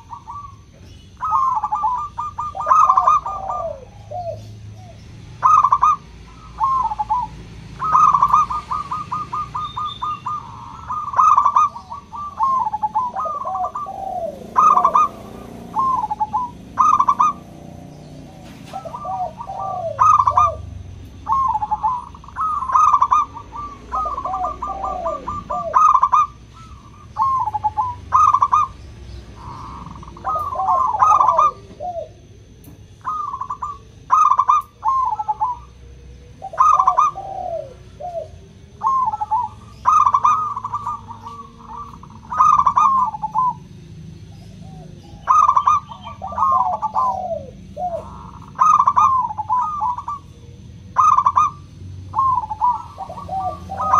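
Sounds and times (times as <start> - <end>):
doves cooing: 0.0 - 53.9.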